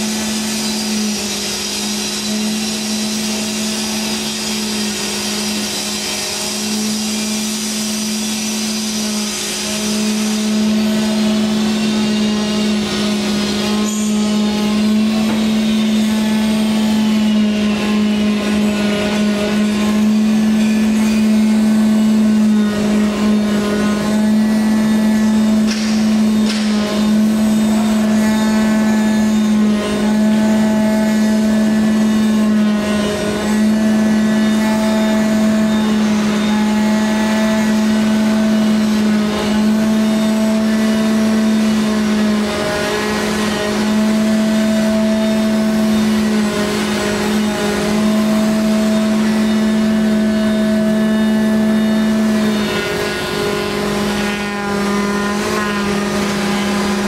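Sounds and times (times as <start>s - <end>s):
cnc router machine drone: 0.0s - 57.0s.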